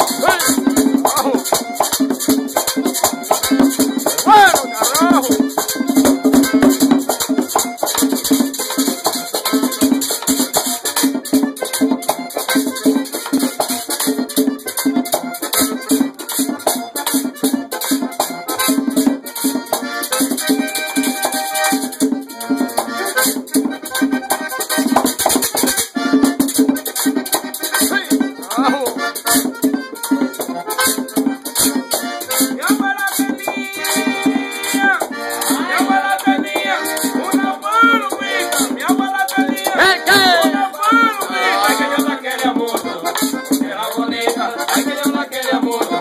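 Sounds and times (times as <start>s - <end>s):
button accordion playing fast tune: 0.0s - 46.0s
rattling percussion beat: 0.0s - 46.0s.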